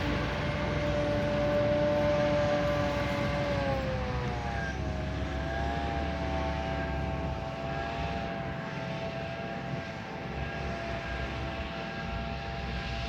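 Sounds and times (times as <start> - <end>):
harvester high whine: 0.0 - 13.0
low engine drone: 0.0 - 13.0.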